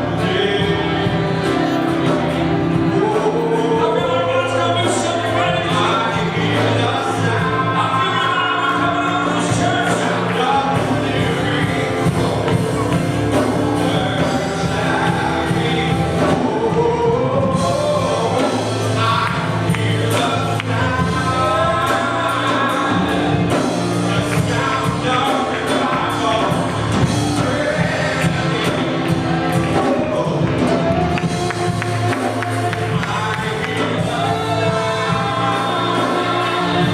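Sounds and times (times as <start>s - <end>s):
worship band and singers: 0.0s - 36.9s.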